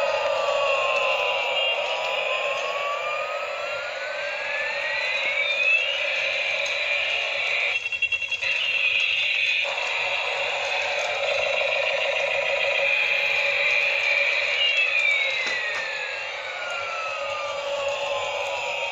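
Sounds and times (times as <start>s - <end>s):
toy electronic siren: 0.0s - 18.9s.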